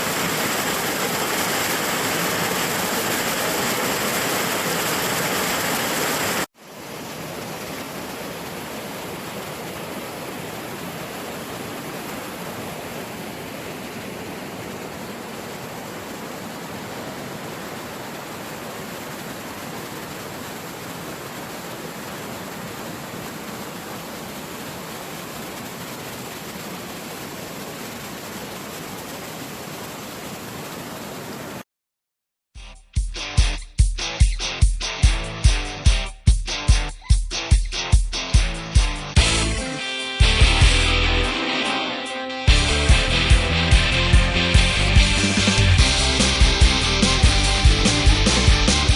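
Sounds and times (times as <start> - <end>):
waterfall rushing: 0.0 - 31.6, 39.1 - 48.9.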